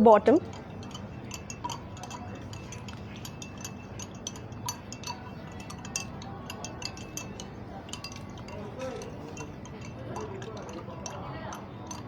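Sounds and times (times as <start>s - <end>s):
spoon clinking against a glass: 0.4s - 12.0s.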